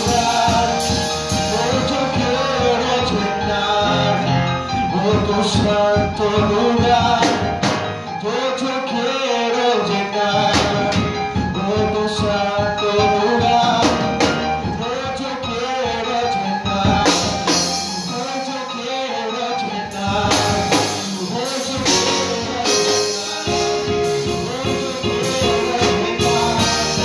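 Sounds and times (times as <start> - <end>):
drum kit: 0.0 - 8.4, 10.0 - 18.8, 19.6 - 27.0
electric keyboard: 0.0 - 27.0
man singing into a microphone: 0.0 - 27.0.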